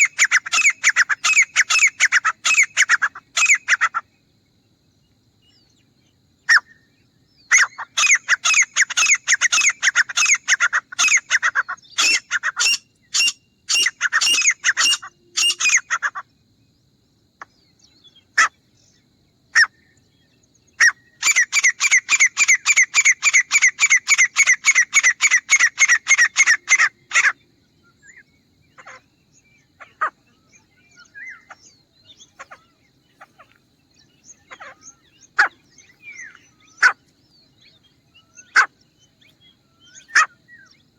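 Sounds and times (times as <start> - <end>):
francolin rapid loud calls: 0.0 - 4.2, 6.0 - 16.4, 17.3 - 20.0, 20.6 - 40.9
faint scattered bird calls: 0.0 - 40.9.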